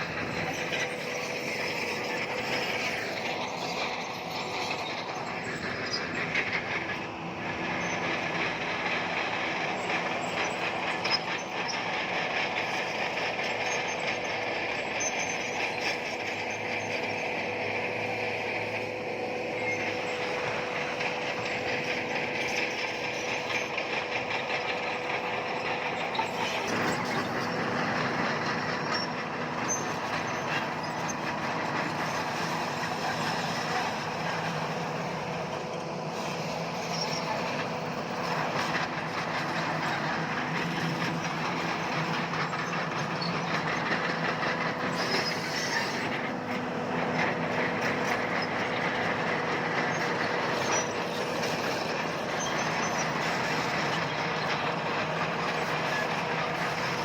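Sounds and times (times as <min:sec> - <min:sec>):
diesel engine running under load: 0:00.0 - 0:57.0
steel tracks clanking: 0:00.0 - 0:57.0.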